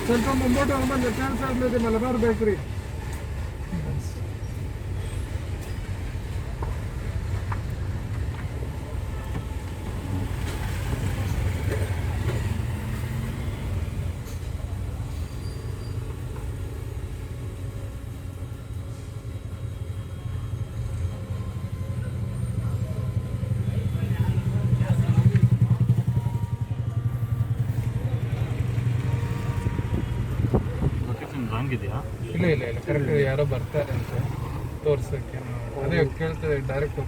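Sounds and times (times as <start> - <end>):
vehicle low rumble: 0.0 - 37.0.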